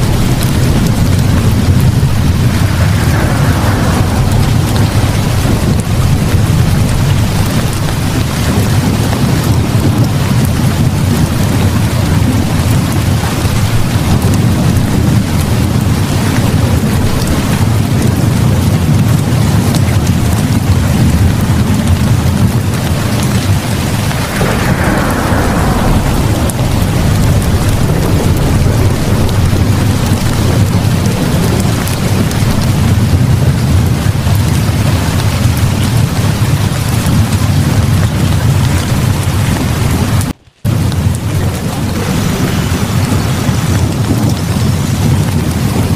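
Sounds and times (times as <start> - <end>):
deep thunder rumble: 0.0 - 45.9
heavy rain: 0.0 - 45.9
light crackles: 0.0 - 45.9.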